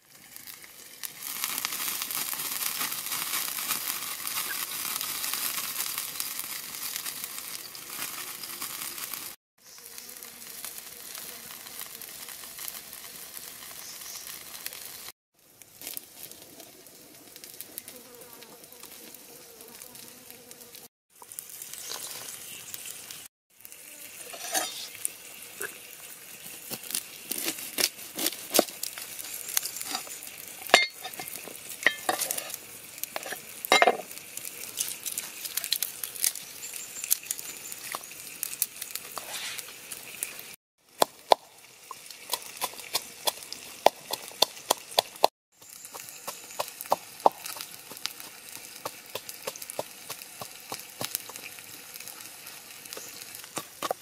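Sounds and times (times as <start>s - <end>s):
fish sizzling on griddle: 0.0s - 54.0s.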